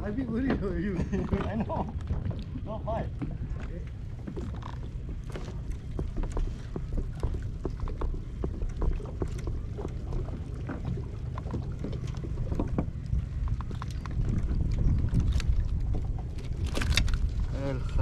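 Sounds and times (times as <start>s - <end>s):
waves lapping against kayak hull: 0.0s - 18.0s
wind rumble on microphone: 0.0s - 18.0s.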